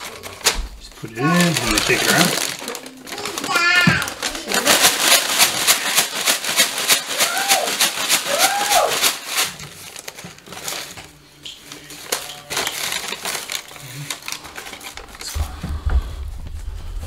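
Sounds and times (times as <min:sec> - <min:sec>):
paper bag crinkling: 0:00.0 - 0:15.4.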